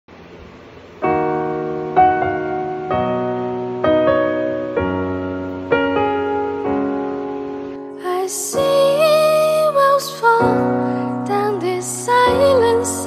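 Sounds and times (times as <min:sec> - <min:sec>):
slow piano chords: 0:00.7 - 0:13.0.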